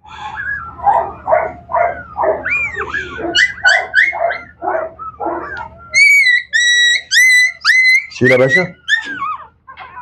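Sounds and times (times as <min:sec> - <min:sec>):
puppy yelping and whimpering: 0:00.1 - 0:10.0.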